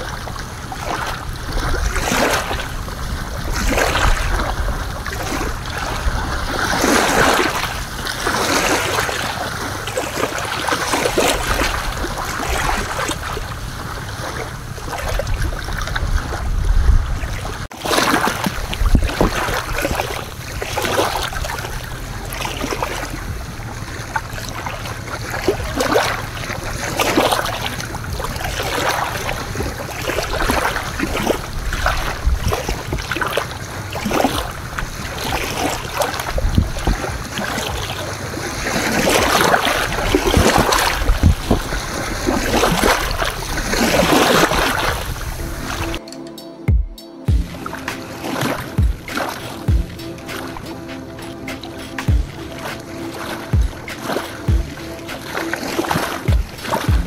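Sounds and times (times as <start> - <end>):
waves lapping on beach: 0.0 - 46.0, 47.4 - 57.0
wind buffeting microphone: 0.0 - 46.1.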